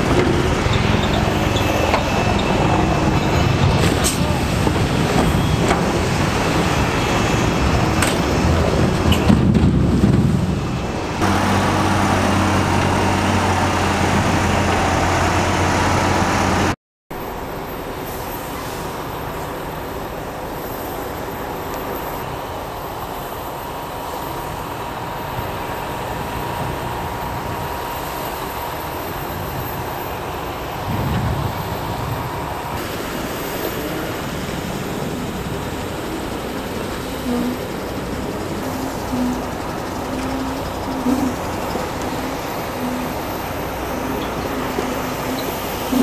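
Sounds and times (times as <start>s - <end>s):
distant engines rumbling: 0.0s - 46.0s
truck engine running: 0.0s - 46.0s.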